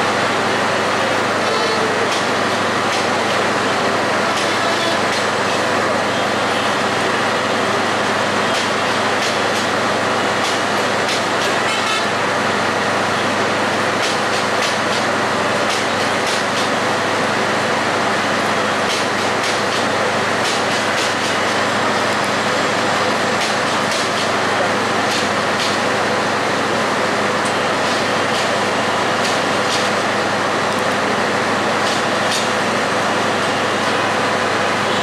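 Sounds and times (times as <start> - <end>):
train coaches rumbling over tracks: 0.0 - 35.0.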